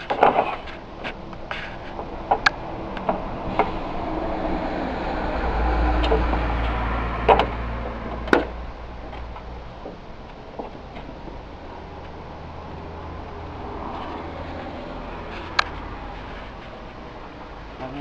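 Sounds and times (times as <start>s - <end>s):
low rumble: 0.0s - 17.8s
passing vehicle hum: 0.0s - 18.0s.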